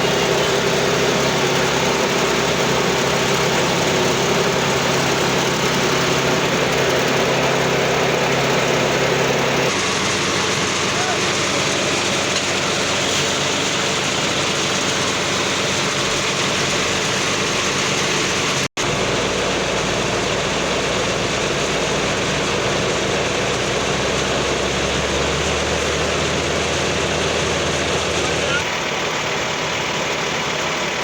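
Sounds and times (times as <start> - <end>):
diesel machinery engine running: 0.0 - 31.0.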